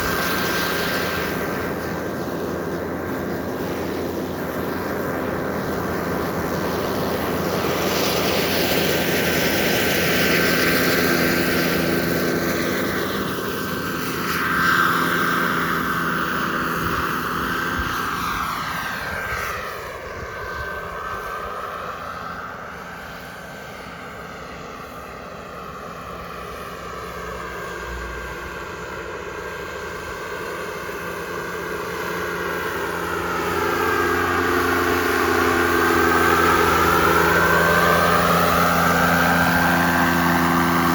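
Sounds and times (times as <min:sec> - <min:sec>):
model jet turbine whining: 0:00.0 - 0:40.9.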